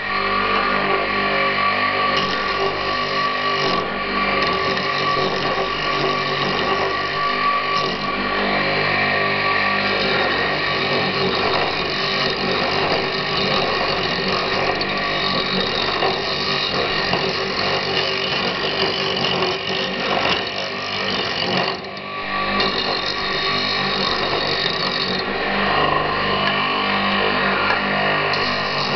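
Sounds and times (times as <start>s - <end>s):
blade cutting spinning wood: 0.0s - 28.9s
lathe motor whining: 0.0s - 28.9s.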